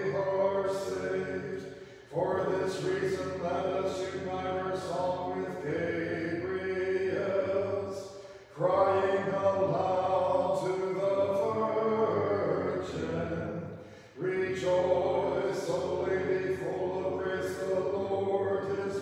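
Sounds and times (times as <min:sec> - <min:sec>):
liturgical chant singing: 0:00.0 - 0:19.0.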